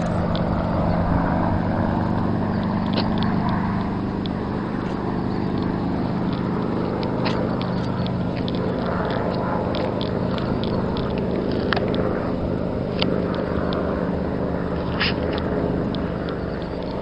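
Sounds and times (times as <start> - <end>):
helicopter engine and rotor running: 0.0 - 17.0.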